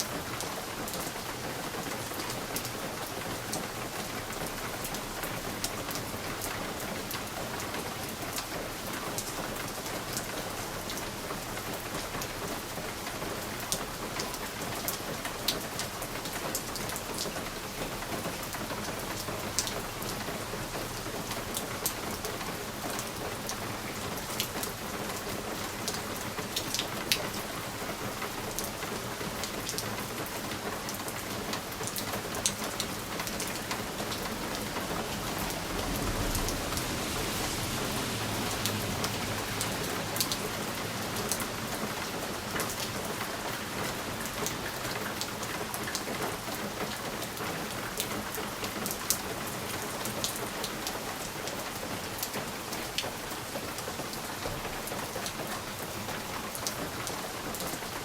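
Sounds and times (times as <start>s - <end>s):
rain hissing on a window: 0.0s - 58.0s.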